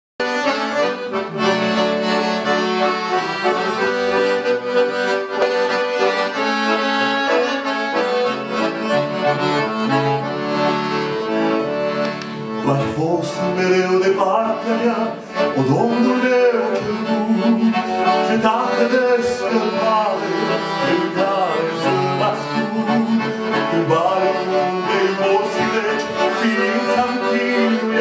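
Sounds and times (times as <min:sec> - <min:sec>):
accordion melody over chords: 0:00.2 - 0:28.0.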